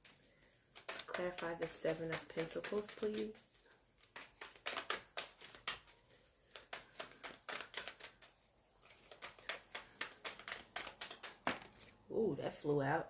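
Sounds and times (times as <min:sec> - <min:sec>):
cards being shuffled: 0:00.7 - 0:12.1.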